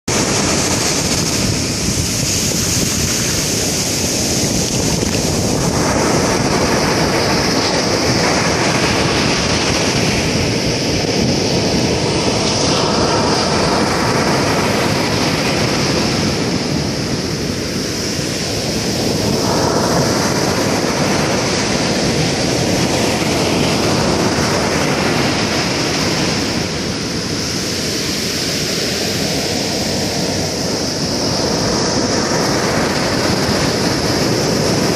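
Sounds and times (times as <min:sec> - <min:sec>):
surf breaking on a beach: 0:00.1 - 0:34.9.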